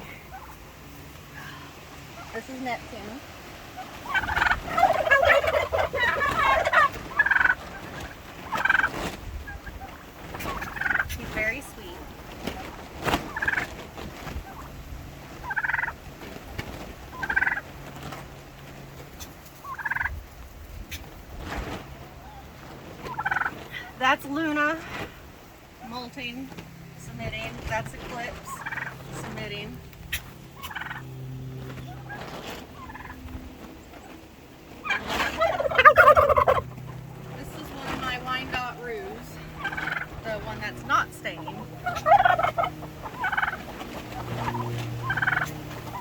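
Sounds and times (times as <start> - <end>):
turkeys gobbling: 0.0 - 46.0.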